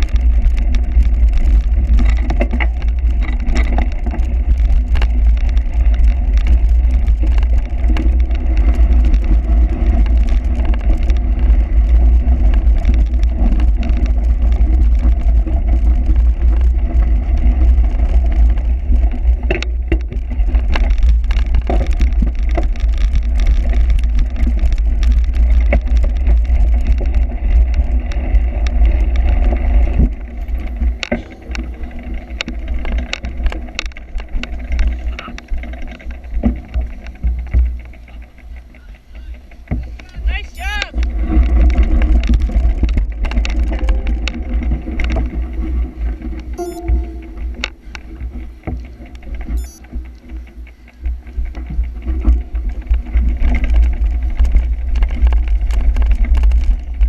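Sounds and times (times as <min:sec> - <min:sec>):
bike rattling over rough ground: 0:00.0 - 0:57.0
wind rumble on microphone: 0:00.0 - 0:57.0.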